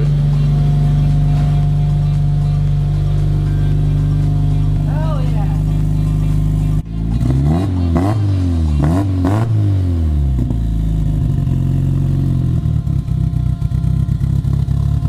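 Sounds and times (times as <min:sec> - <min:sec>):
car engine idling: 0:00.0 - 0:15.0
car engine revving: 0:00.0 - 0:15.0.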